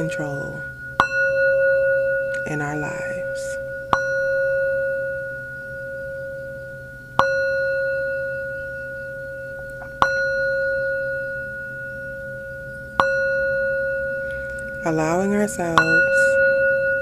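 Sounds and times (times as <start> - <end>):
metal singing bowl ringing: 0.0 - 17.0.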